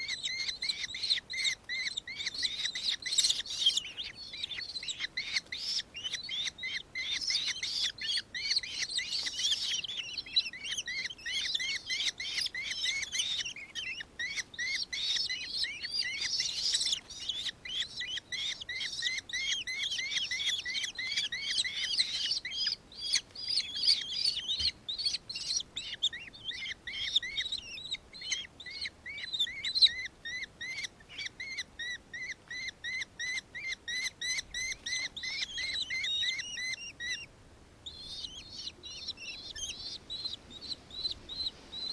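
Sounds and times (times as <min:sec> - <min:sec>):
kestrel shrill chatter: 0:00.0 - 0:37.2.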